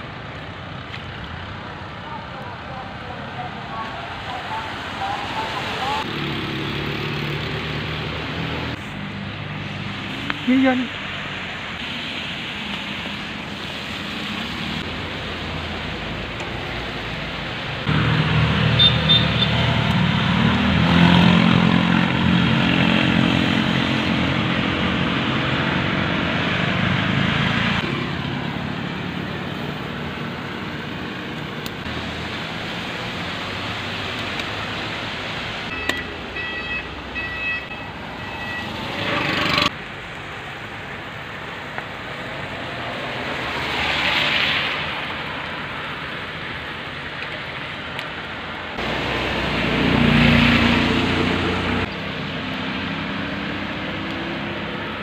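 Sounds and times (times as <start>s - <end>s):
rain on a wet street: 0.0s - 39.0s, 39.7s - 55.0s
road traffic hiss: 0.0s - 55.0s.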